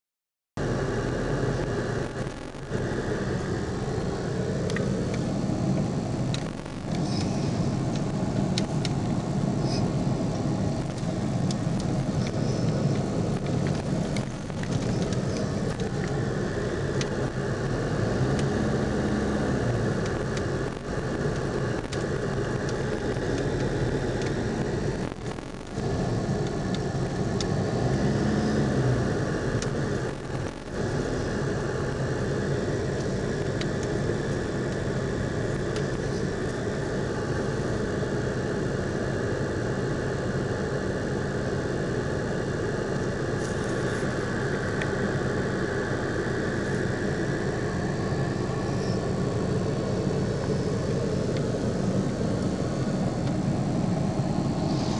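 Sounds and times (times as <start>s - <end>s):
car engine and road noise inside cabin: 0.6s - 54.9s.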